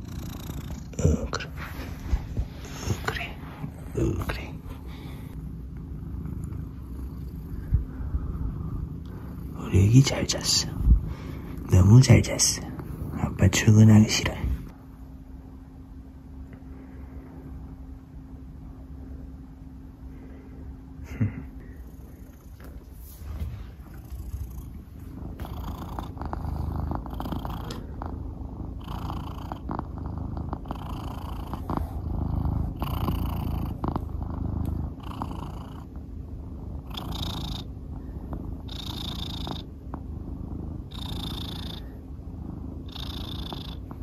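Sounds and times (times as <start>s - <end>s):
cat purring: 0.0s - 44.0s.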